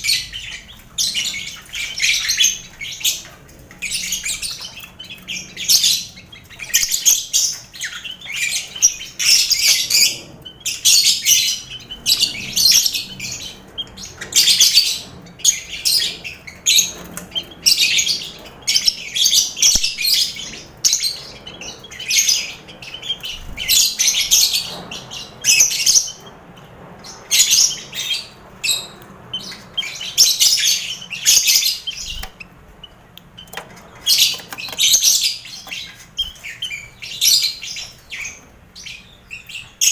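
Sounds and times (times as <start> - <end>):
birds chattering and calling: 0.0 - 39.9
shrill bird calls: 0.0 - 39.9.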